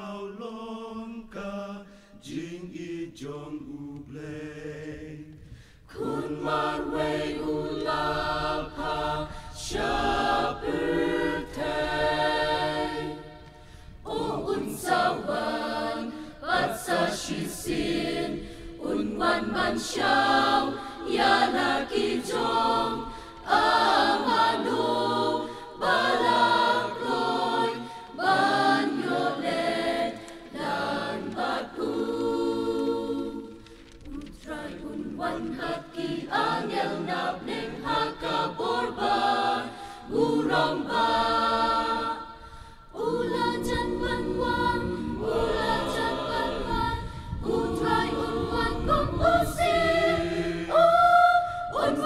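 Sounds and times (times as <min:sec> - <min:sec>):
mixed choir singing a hymn: 0:00.0 - 0:52.0.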